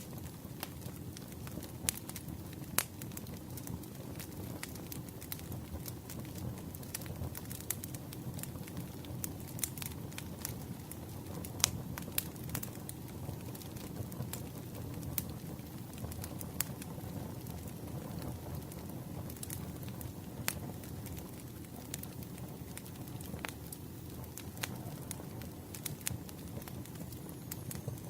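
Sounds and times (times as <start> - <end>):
fire crackles and pops: 0.0 - 28.0
low rumble of flames: 0.0 - 28.0.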